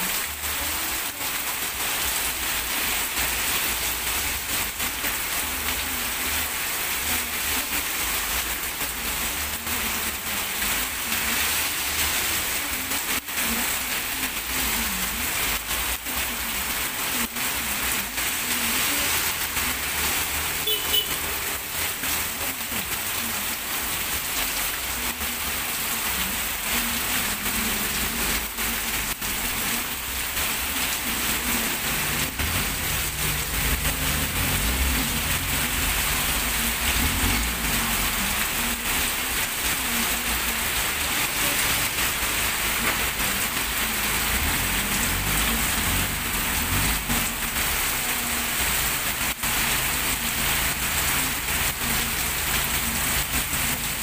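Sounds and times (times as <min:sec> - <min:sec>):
heavy rain on street: 0:00.0 - 0:54.0.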